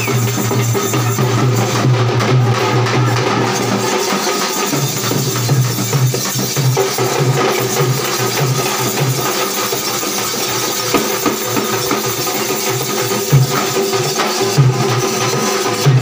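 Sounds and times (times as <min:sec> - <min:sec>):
hand drums beaten in rhythm: 0:00.0 - 0:16.0.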